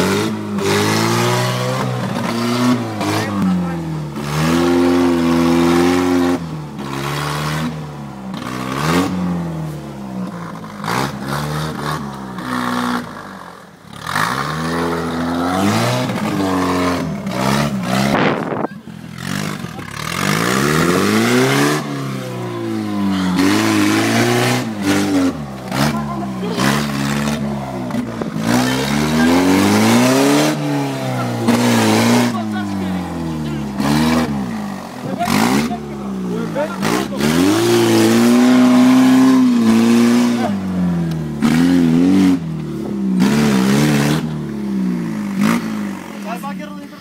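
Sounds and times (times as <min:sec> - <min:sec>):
off-road engine revving hard: 0:00.0 - 0:47.0.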